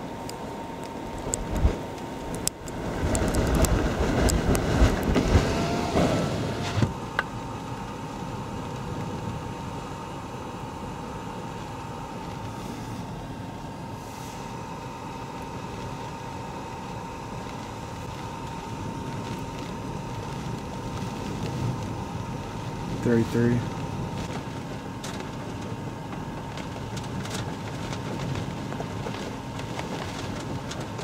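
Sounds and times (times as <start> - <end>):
faint steady hum: 0.0 - 31.0
gusty wind around a car: 0.0 - 31.0.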